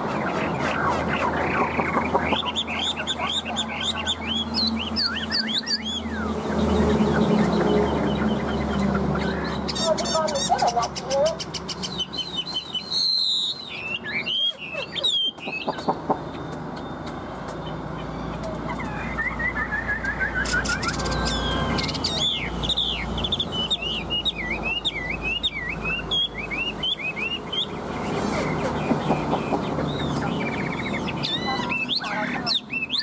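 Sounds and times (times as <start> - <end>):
songbird whistling song: 0.0 - 33.0.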